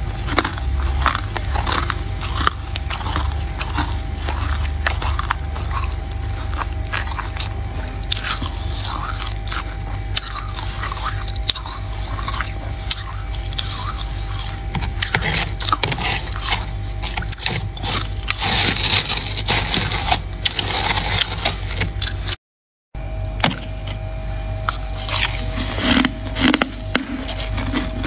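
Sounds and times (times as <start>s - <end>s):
spoon scraping freezer frost: 0.0s - 22.4s, 23.5s - 28.0s.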